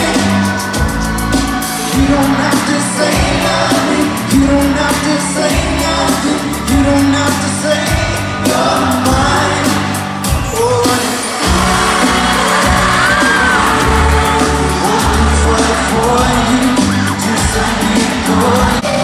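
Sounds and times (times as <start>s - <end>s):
lead singer singing: 0.0s - 19.0s
live pop band playing: 0.0s - 19.0s.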